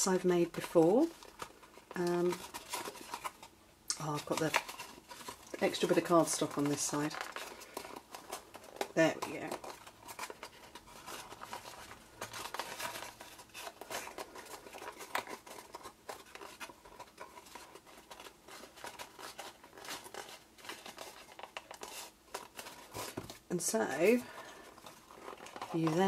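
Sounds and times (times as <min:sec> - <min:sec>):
cardstock crackling and rustling: 0:00.0 - 0:26.0.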